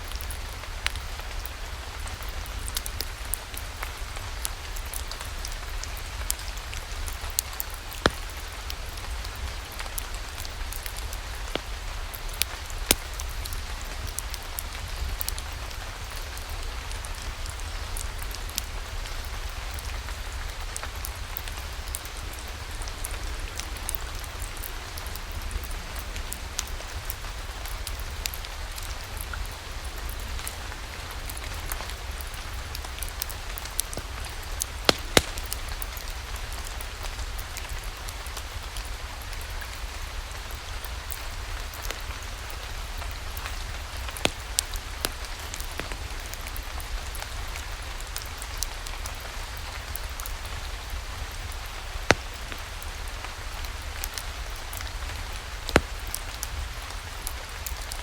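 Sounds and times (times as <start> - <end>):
rain falling: 0.0 - 58.0
wood fire crackling and popping: 0.1 - 58.0.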